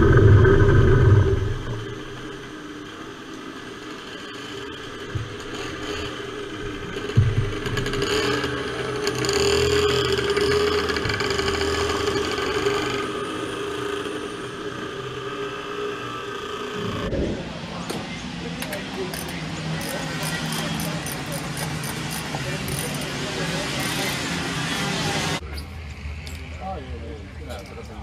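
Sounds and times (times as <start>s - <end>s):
kart engines idling: 0.0s - 25.8s.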